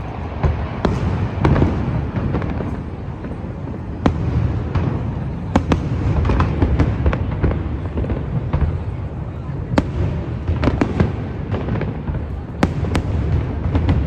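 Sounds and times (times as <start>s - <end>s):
firework bangs and crackles: 0.0s - 14.0s.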